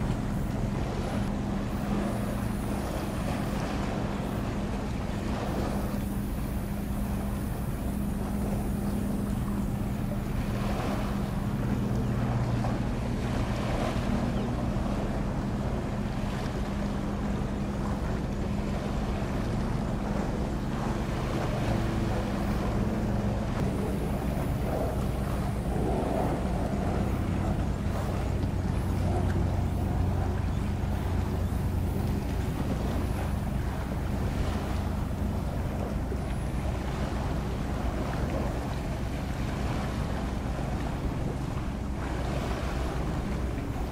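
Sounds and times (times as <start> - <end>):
ship engine droning: 0.0 - 43.9
water noise: 0.0 - 43.9
wind on microphone: 0.0 - 43.9.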